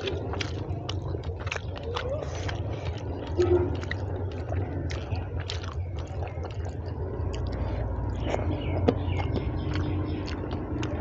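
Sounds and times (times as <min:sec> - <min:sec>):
steady low hum: 0:00.0 - 0:11.0
wet mouth chewing sounds: 0:00.0 - 0:11.0.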